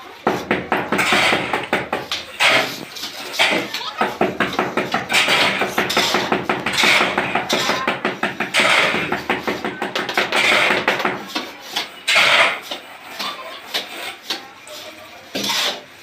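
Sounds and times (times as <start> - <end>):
hoe scraping through cement mix: 0.0 - 16.0.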